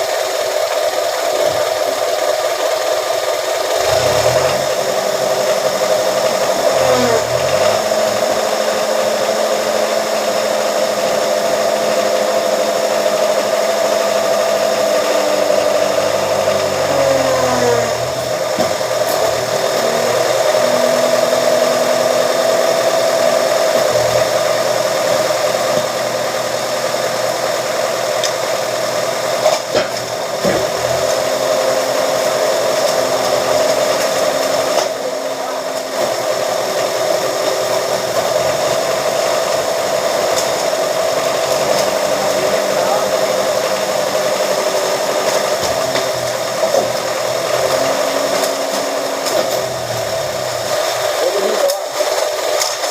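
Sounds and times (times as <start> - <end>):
press machine motor hum: 0.0 - 52.9.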